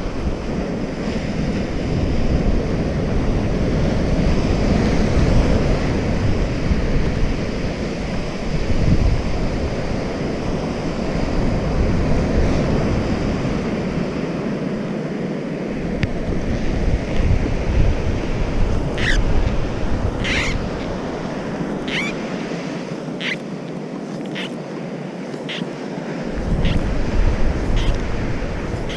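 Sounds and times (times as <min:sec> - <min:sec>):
waves breaking on beach: 0:00.0 - 0:28.9
wind buffeting microphone: 0:00.0 - 0:28.9.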